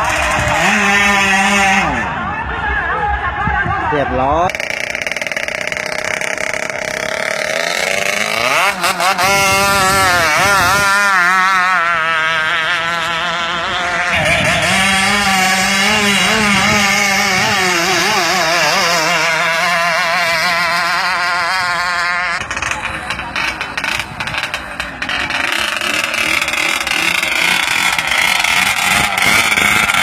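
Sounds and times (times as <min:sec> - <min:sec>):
two-stroke boat engine revving: 0:00.0 - 0:02.2, 0:04.3 - 0:30.0.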